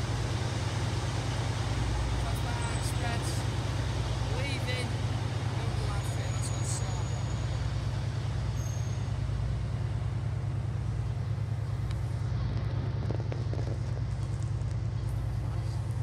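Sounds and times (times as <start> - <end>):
diesel train engine idling: 0.0 - 16.0
station noise hiss: 0.0 - 16.0.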